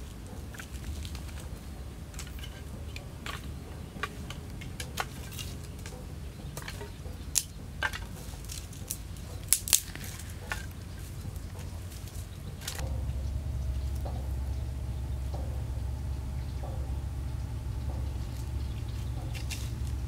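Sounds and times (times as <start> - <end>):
twigs snapping and clattering: 0.0 - 16.0, 16.6 - 20.0.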